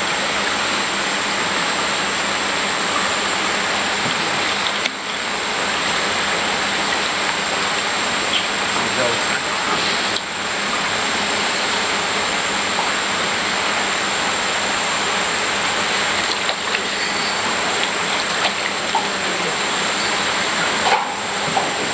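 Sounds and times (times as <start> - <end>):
water splashing and churning: 0.0 - 21.9
small drips and splashes: 0.3 - 21.8.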